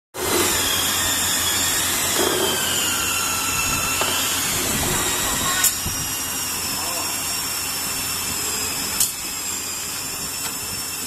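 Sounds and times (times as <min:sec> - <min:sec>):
machine whirring and hissing: 0:00.2 - 0:11.0.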